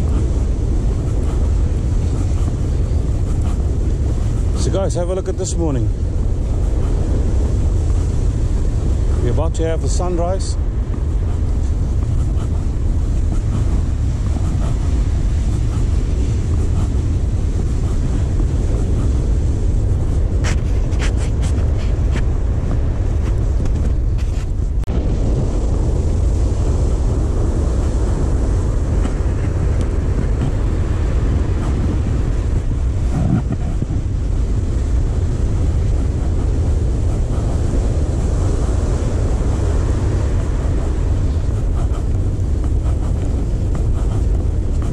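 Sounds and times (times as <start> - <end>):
wind rumble: 0.0 - 44.9.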